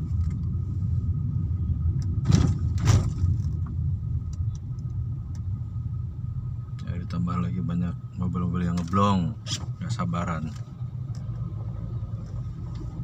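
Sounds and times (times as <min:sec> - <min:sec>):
idling traffic rumble: 0:00.0 - 0:13.0.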